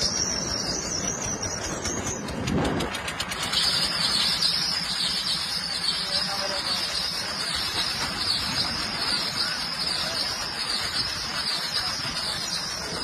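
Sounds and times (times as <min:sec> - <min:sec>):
rapid clicks: 0:00.0 - 0:13.0
train wheels rumbling on rails: 0:00.0 - 0:13.0.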